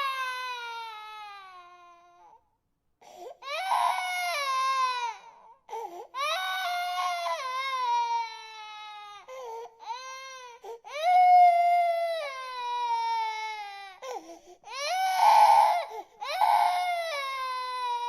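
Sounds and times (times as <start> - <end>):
infant crying: 0.0 - 2.4, 3.2 - 18.0.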